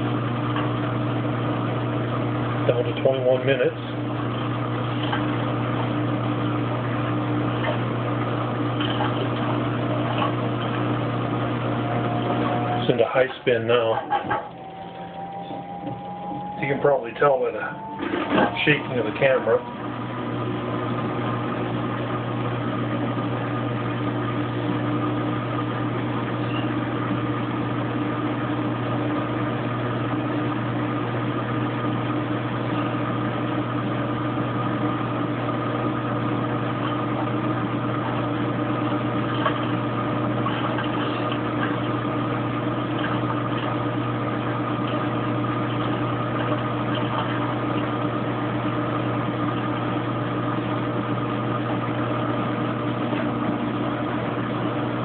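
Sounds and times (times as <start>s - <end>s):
washing machine spin hum: 0.0s - 55.0s.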